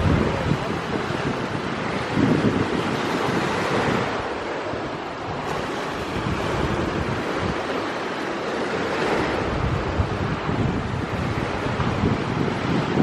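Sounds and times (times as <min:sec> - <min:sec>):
wind rushing: 0:00.0 - 0:07.8, 0:09.0 - 0:13.0
surf: 0:00.0 - 0:13.0
wind buffeting microphone: 0:00.0 - 0:13.0.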